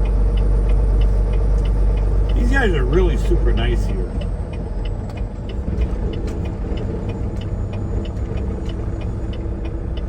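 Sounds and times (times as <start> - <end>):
diesel truck engine running: 0.0 - 10.0
light regular ticking: 0.0 - 10.0.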